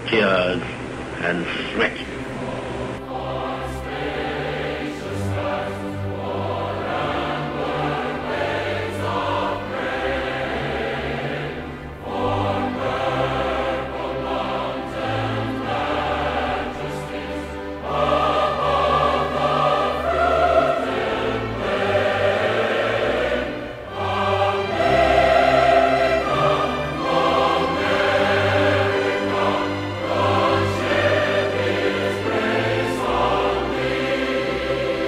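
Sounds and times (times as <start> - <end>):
choir singing held chords: 0.8 - 35.0.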